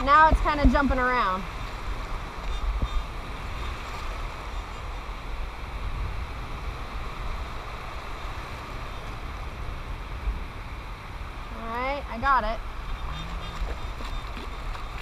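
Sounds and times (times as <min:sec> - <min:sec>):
surf washing: 0:00.0 - 0:15.0
wind on microphone: 0:00.0 - 0:15.0.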